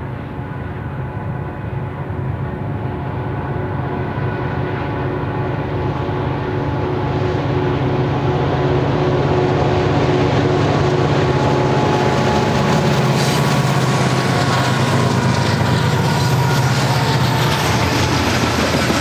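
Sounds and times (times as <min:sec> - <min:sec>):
diesel locomotive engines: 0:00.0 - 0:19.0
train wheels rolling on rails: 0:00.0 - 0:19.0.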